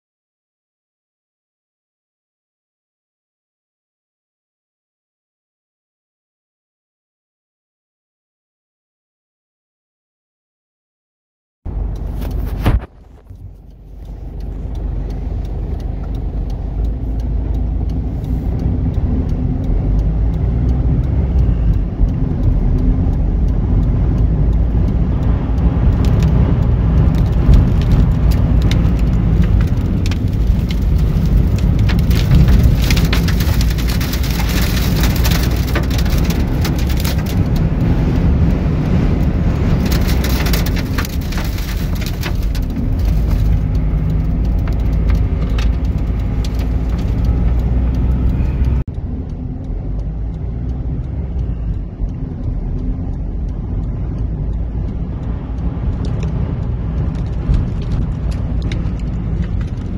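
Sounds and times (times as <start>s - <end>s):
sharp ticks and crackles: 11.7s - 59.9s
vehicle cabin rumble: 11.7s - 59.9s.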